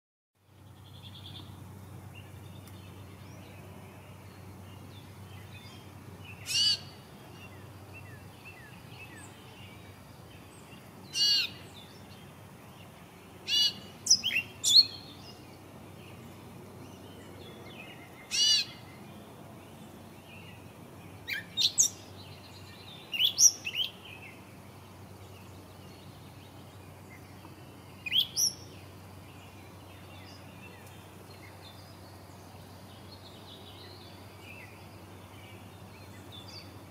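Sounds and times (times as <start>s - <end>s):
faint background hiss: 0.4s - 36.9s
high chirpy bird calls: 2.2s - 9.8s, 10.6s - 12.2s, 13.4s - 16.3s, 16.9s - 19.1s, 20.6s - 24.4s, 25.4s - 36.9s.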